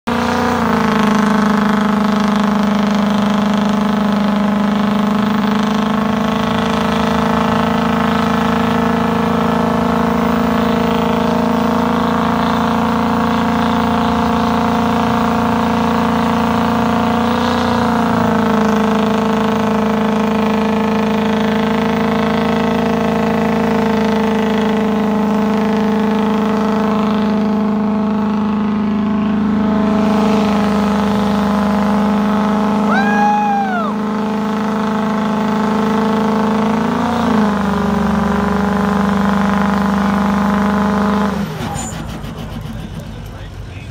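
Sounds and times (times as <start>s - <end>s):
diesel engine on rev limiter: 0.0s - 43.9s.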